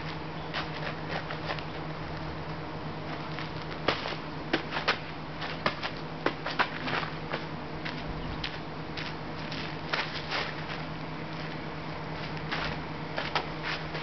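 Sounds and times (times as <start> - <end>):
feet landing on gravel: 0.0 - 1.7, 3.0 - 14.0
footsteps on gravel: 0.0 - 1.9, 3.0 - 14.0
steady low hum: 0.0 - 14.0.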